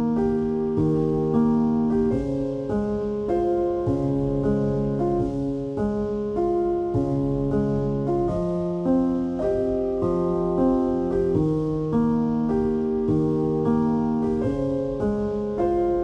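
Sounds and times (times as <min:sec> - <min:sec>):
calm piano music: 0:00.0 - 0:16.0.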